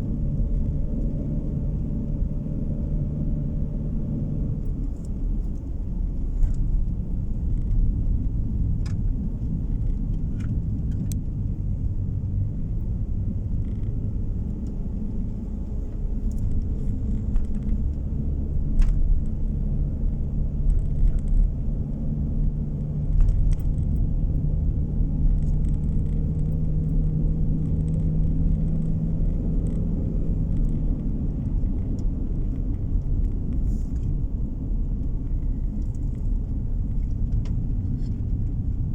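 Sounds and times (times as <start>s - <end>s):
tyre and road rumble: 0.0s - 38.9s.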